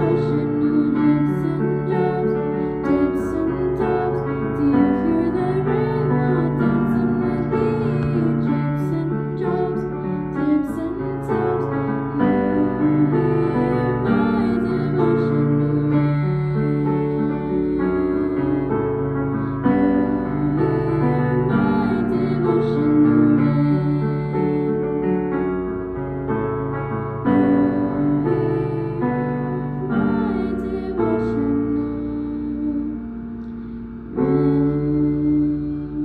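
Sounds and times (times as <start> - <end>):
girl singing: 0.0 - 25.0, 27.3 - 33.2, 34.2 - 36.0
digital piano playing: 0.0 - 36.0.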